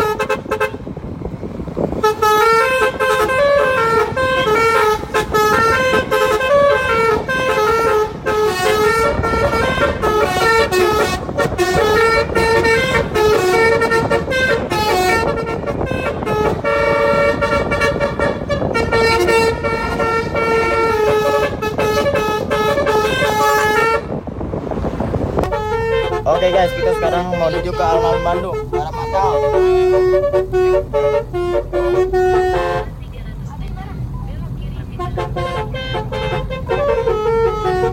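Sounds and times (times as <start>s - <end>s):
musical horn playing a tune: 0.0s - 0.9s, 1.9s - 24.2s, 25.4s - 33.0s, 34.9s - 37.9s.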